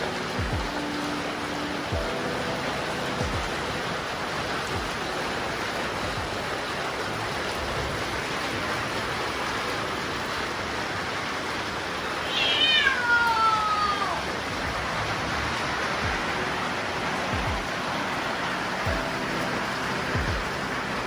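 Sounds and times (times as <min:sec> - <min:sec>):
steady rushing noise: 0:00.0 - 0:12.2, 0:14.1 - 0:21.0.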